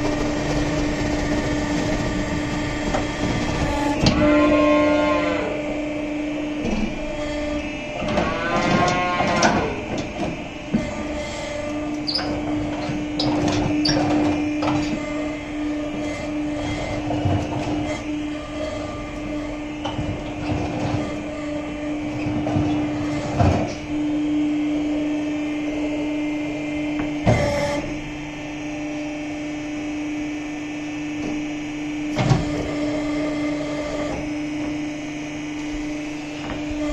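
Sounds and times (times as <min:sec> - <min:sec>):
feeding machine humming: 0:00.0 - 0:36.9.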